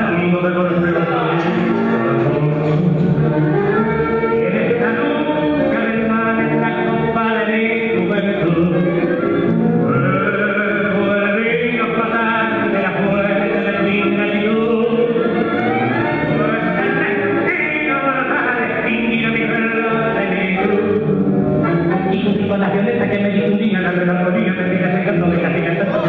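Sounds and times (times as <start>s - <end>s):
person singing: 0.0s - 26.0s
tango band playing: 0.0s - 26.0s.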